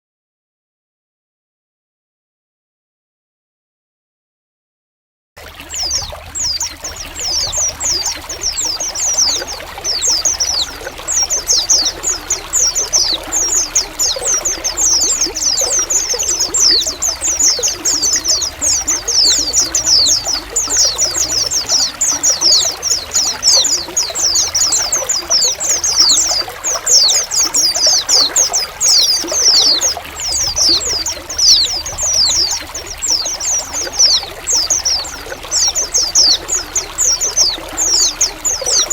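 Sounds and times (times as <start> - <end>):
running water trickling: 5.4 - 38.9
birds chirping: 5.6 - 38.9.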